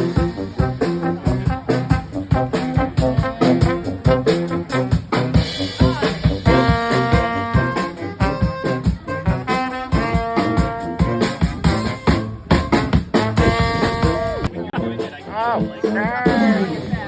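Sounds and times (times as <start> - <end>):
brass band playing swing tune: 0.0 - 17.0
drum beat: 0.0 - 17.0.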